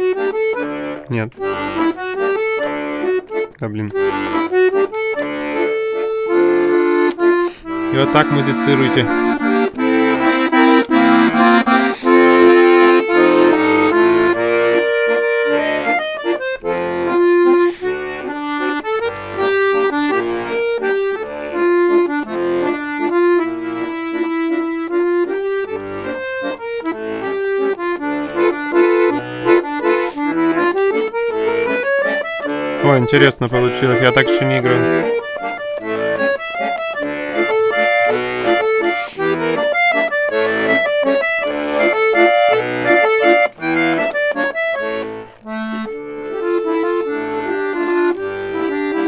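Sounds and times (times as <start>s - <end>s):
button accordion playing: 0.0s - 49.0s.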